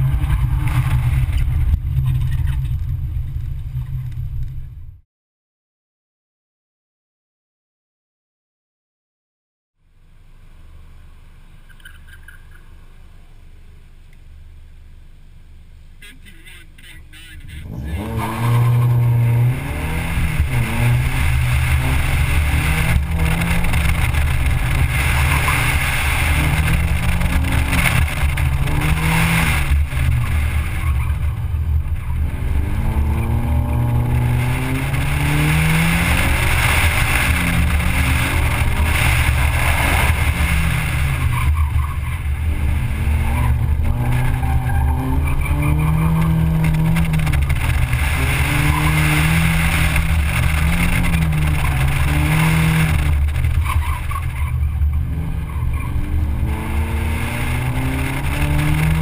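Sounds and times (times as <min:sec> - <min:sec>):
car engine accelerating: 0:00.0 - 0:05.0, 0:16.8 - 0:59.0.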